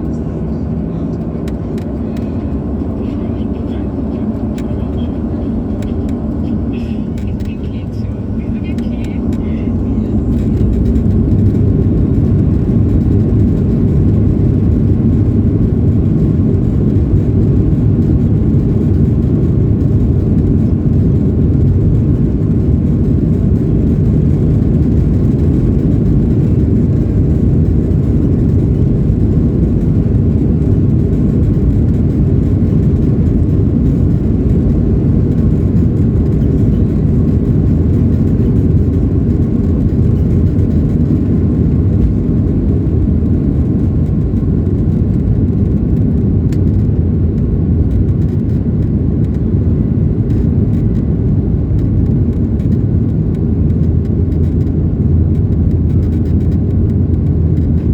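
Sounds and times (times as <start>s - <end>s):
faint steady whine: 0.0s - 57.9s
jet engines roaring in cabin: 0.0s - 57.9s.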